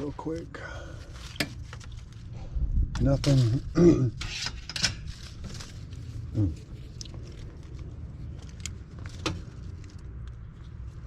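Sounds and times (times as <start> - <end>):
steady low rumble: 0.0 - 4.3, 4.9 - 11.0.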